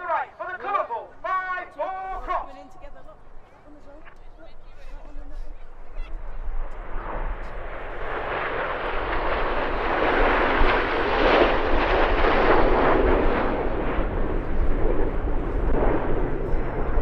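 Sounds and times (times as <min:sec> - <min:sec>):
jet aircraft passing low: 0:03.1 - 0:17.0.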